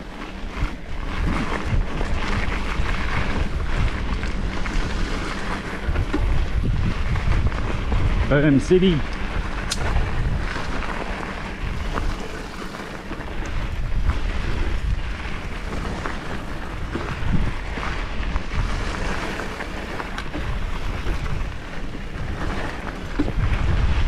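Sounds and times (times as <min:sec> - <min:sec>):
mountain bike riding whir: 0:00.0 - 0:24.0
wind buffeting microphone: 0:00.0 - 0:24.0
bike knocks and rattles: 0:00.4 - 0:08.3, 0:09.1 - 0:24.0.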